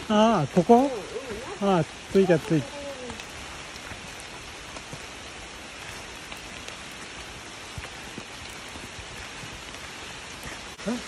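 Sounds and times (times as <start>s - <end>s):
raindrop ticks: 0.0s - 11.0s
steady rain falling: 0.0s - 11.0s.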